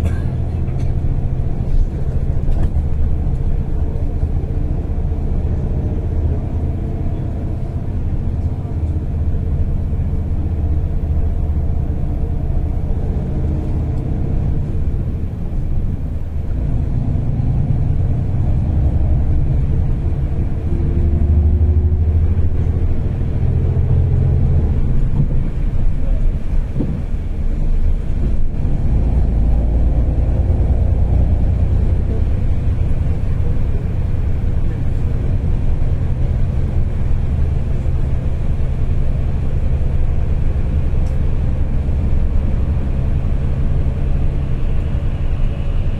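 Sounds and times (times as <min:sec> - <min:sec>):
bus engine and tyres rumbling: 0:00.0 - 0:45.9.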